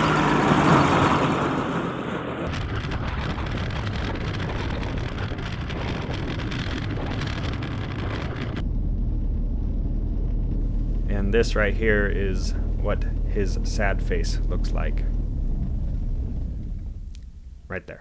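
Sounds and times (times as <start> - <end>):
aircraft engine and propeller: 0.0 - 17.9
low engine rumble: 0.0 - 18.0.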